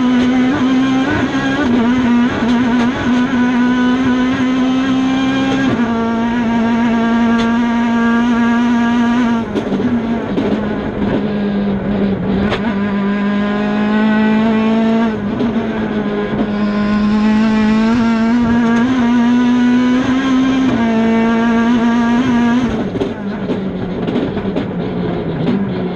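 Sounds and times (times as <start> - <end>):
rally car engine at high revs: 0.0 - 25.9.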